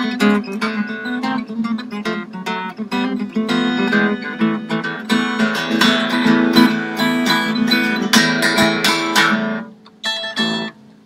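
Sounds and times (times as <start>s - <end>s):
acoustic harp guitar playing: 0.0s - 10.8s.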